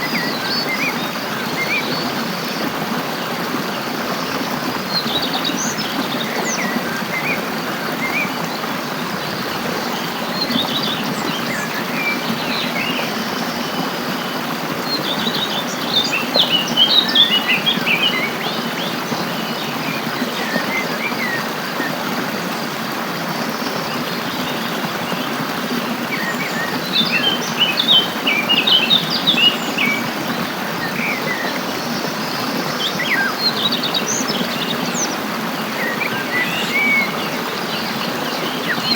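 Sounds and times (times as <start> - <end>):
birds twittering: 0.0 - 38.9
stream rushing: 0.0 - 38.9.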